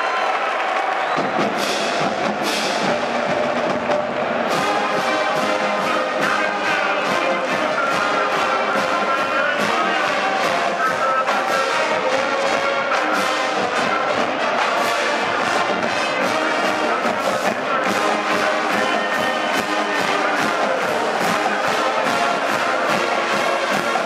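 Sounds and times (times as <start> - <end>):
steady drum beat: 0.8 - 24.0
brass playing a tune: 4.4 - 24.0.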